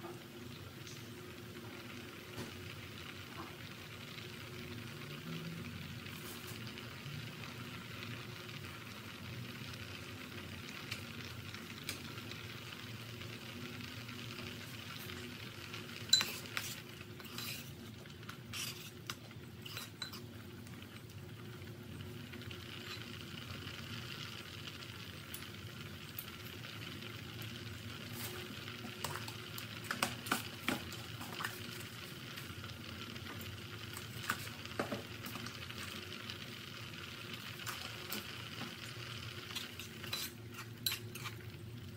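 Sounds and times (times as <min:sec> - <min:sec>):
sauce bubbling in a pot: 0:00.0 - 0:41.9.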